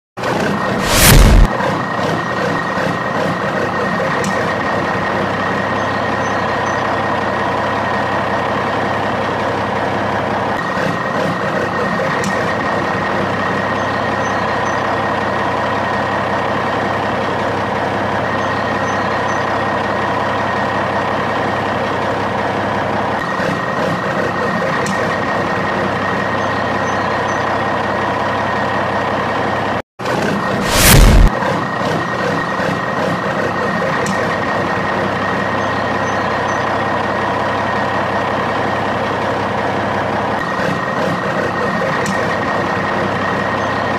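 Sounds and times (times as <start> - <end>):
heavy truck engine running: 0.2 - 43.9.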